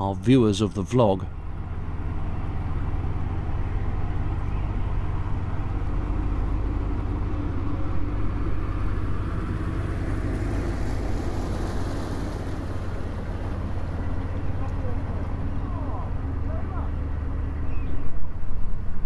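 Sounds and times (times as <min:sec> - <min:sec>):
diesel boat engine running: 0:00.0 - 0:19.0
water noise: 0:00.0 - 0:19.0.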